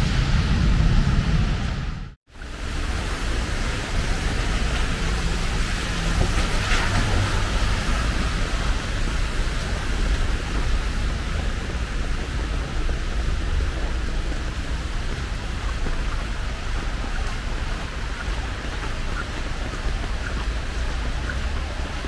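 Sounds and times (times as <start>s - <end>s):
heavy rain hiss: 2.3s - 22.0s.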